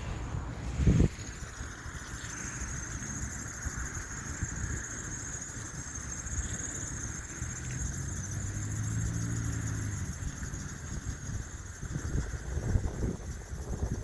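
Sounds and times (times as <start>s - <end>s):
distant vehicle rumble: 0.0s - 14.0s.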